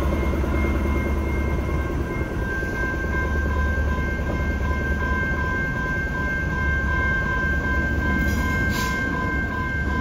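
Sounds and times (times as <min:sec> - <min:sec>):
diesel locomotive engine drone: 0:00.0 - 0:10.0
high whine: 0:00.0 - 0:10.0.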